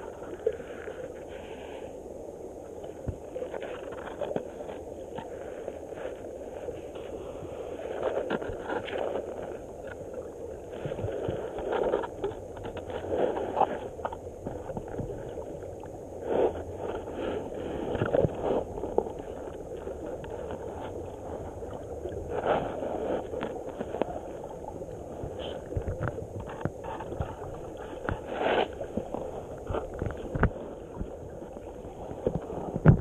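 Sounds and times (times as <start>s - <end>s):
muffled river water underwater: 0.0s - 33.0s.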